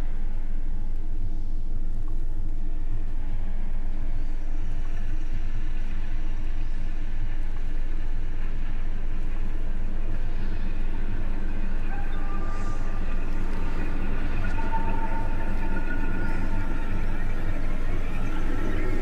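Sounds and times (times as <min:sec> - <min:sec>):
low droning rumble: 0:00.0 - 0:19.0.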